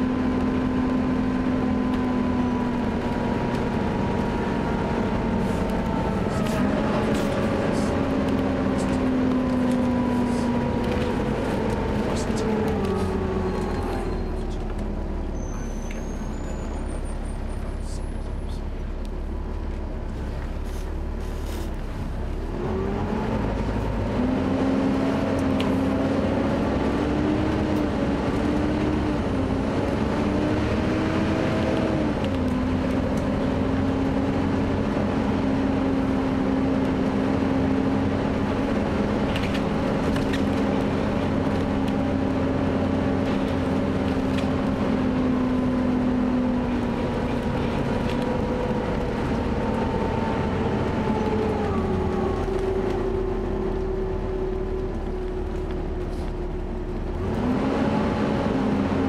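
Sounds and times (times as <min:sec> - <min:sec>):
bus diesel engine accelerating: 0:00.0 - 0:59.0.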